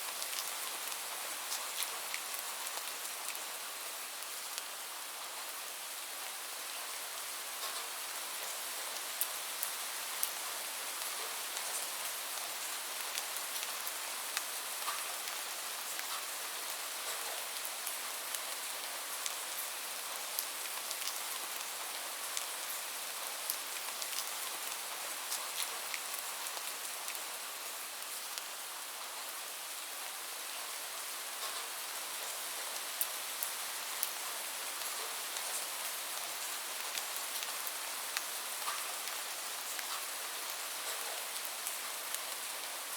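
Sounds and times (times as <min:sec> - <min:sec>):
light rain falling: 0:00.0 - 0:42.9
raindrops ticking on a surface: 0:00.1 - 0:42.9.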